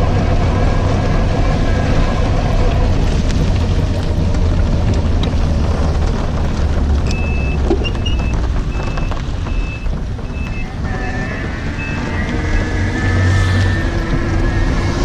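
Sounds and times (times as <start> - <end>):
road noise: 0.0 - 15.0
wind buffeting: 0.0 - 15.0.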